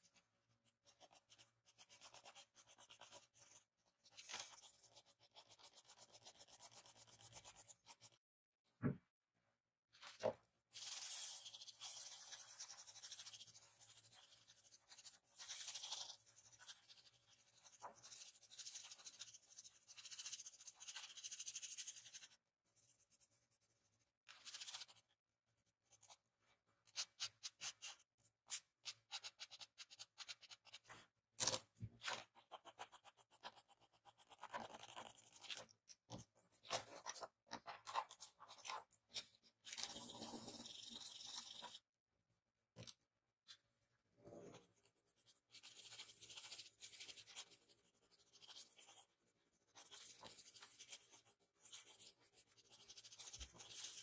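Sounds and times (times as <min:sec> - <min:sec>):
pencil scratching on paper: 0:00.0 - 0:08.2, 0:10.2 - 0:25.1, 0:25.7 - 0:38.9, 0:44.2 - 0:54.0.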